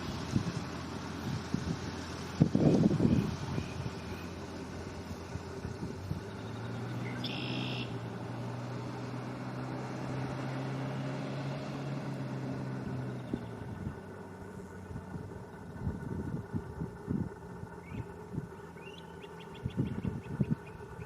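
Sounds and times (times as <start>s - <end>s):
distant engine droning: 0.0s - 21.0s.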